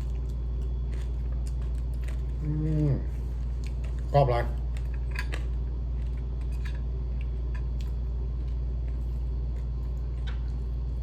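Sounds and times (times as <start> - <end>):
chewing crunchy fried chicken: 0.0 - 11.0
steady low hum: 0.0 - 11.0.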